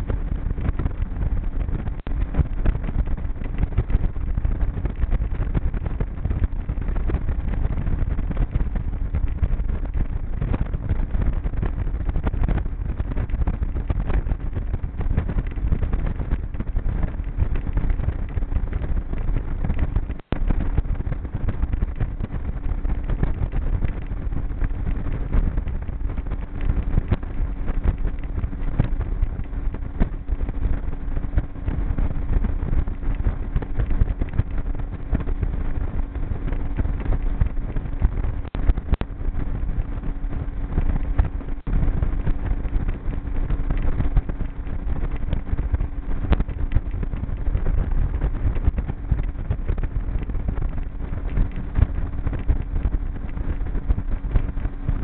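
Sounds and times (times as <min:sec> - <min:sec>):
outboard motor running: 0:00.0 - 0:55.0
wind buffeting microphone: 0:00.0 - 0:55.0.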